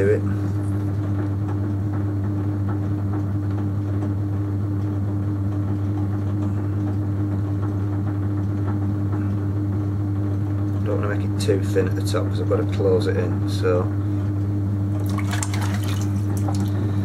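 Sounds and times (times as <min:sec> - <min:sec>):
potter's wheel humming: 0:00.0 - 0:17.0.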